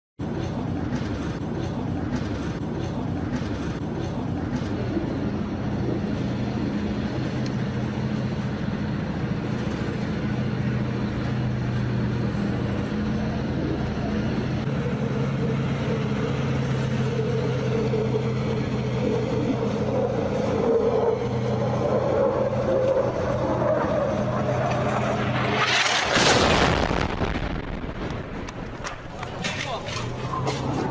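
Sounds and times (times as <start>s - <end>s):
tank engine droning: 0.2s - 30.9s
high whine: 4.6s - 30.9s.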